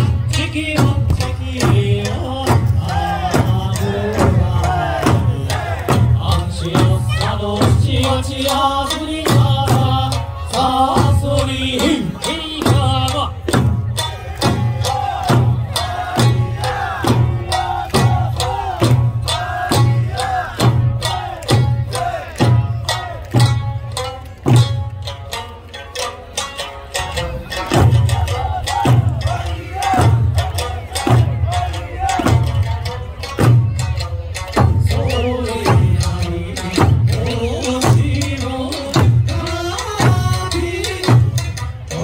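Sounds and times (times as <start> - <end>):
barrel drums beating: 0.0 - 42.0
folk song over loudspeakers: 0.0 - 42.0
small hand drums: 0.0 - 42.0.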